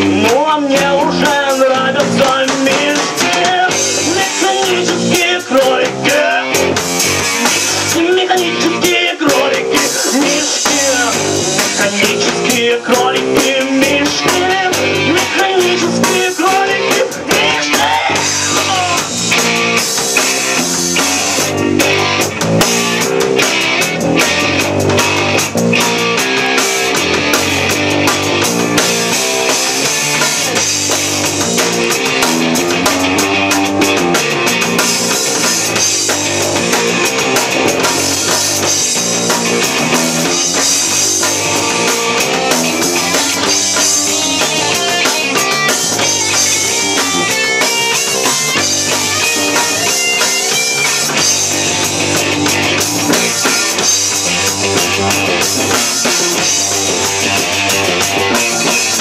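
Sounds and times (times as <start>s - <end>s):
drum kit beating: 0.0s - 59.0s
electric guitars: 0.0s - 59.0s.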